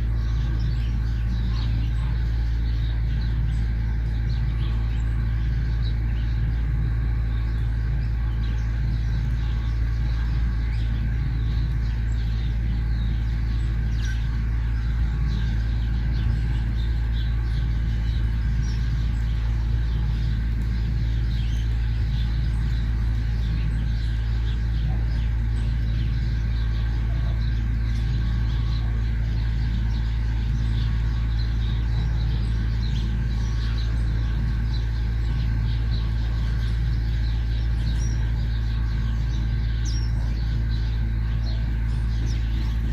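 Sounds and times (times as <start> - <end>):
loud low rumble: 0.0 - 42.9
small birds chirping: 0.0 - 42.9.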